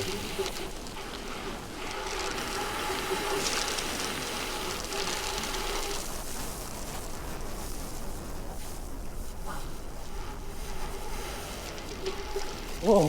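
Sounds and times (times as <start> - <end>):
bicycle tyre noise: 0.0 - 13.0
faint steady hum: 0.0 - 13.0.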